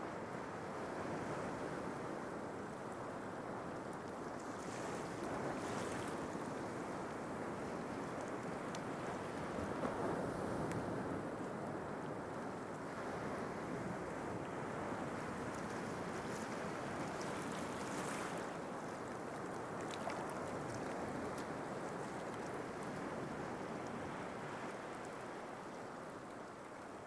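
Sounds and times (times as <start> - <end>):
sea surf washing: 4.6 - 26.6.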